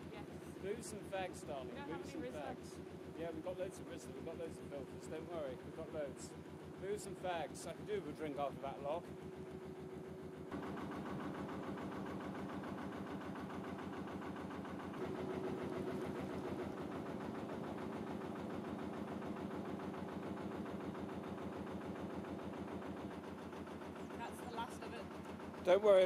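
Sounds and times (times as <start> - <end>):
boat engine chugging: 0.0 - 26.0.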